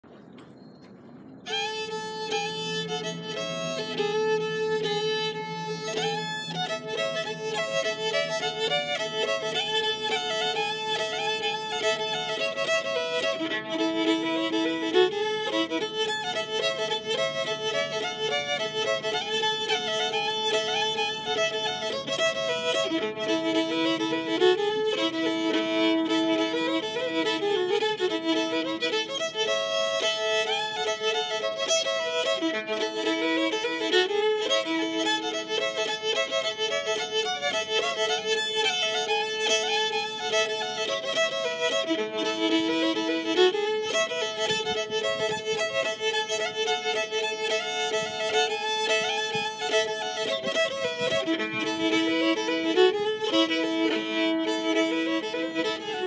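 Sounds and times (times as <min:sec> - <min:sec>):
solo fiddle tune: 0:00.1 - 0:56.0.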